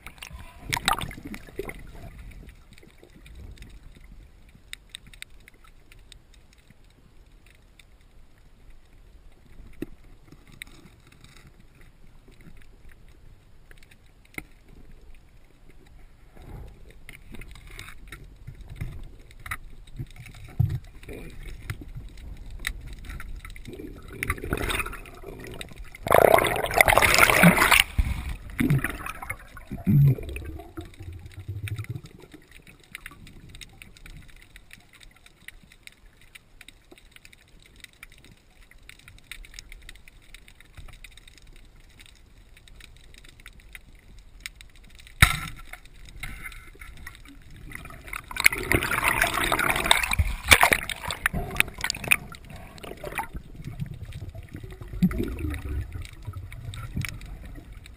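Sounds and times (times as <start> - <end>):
water rushing and gurgling: 0.0 - 6.6, 9.0 - 36.3, 44.7 - 57.9.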